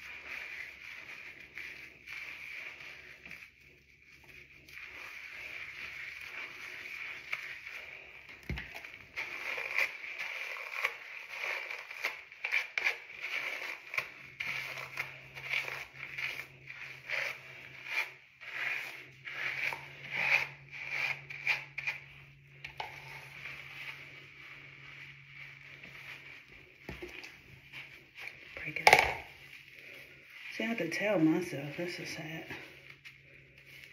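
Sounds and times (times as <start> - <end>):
wet squishing hair rubs: 0.0 - 33.9.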